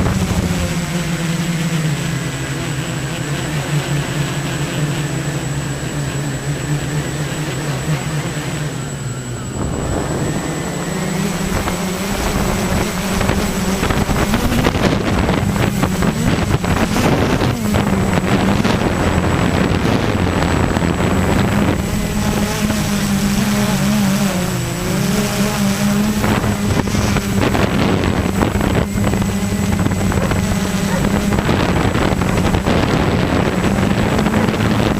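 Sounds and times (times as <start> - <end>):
motor engine running: 0.0 - 34.9
wind noise on microphone: 0.0 - 34.9.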